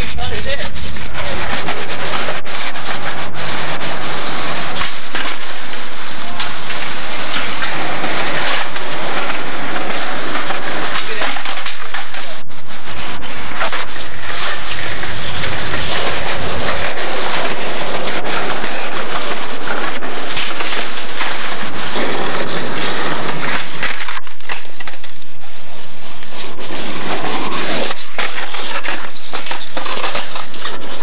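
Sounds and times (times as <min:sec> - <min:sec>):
skateboards rolling on concrete: 0:00.0 - 0:31.0
skateboards clacking on ground: 0:00.7 - 0:12.5, 0:13.1 - 0:25.3, 0:26.4 - 0:31.0.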